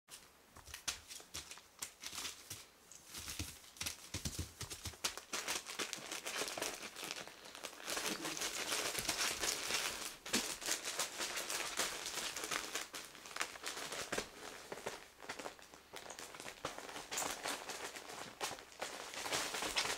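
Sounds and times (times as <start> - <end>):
newspaper rustling under paws: 0.1 - 19.9.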